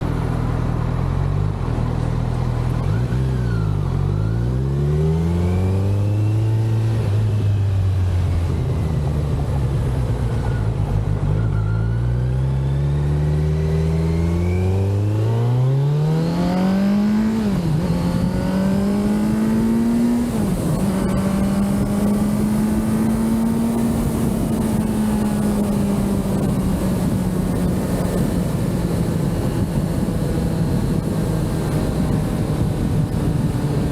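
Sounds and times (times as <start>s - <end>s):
motorcycle engine revving: 0.7s - 33.9s.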